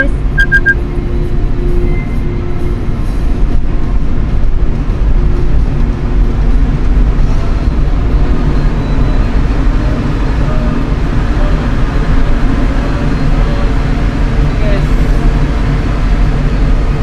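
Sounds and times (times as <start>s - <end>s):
vehicle low rumble: 0.0s - 17.0s.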